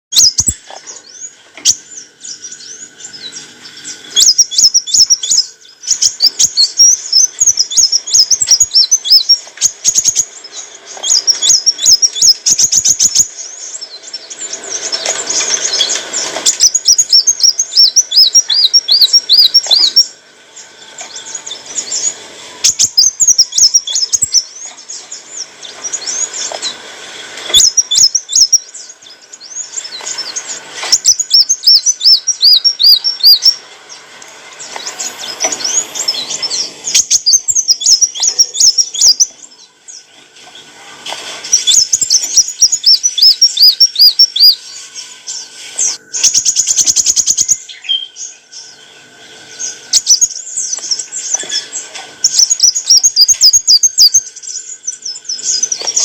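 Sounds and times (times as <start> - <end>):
bird twittering and trilling: 0.1 - 40.8, 41.4 - 56.0.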